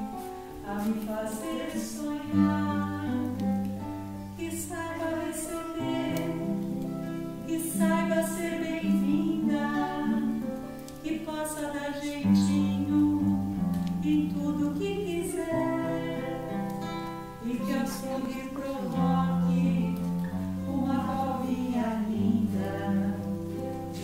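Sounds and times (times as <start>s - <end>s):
acoustic guitar chords: 0.0s - 24.0s
person singing: 0.0s - 24.0s.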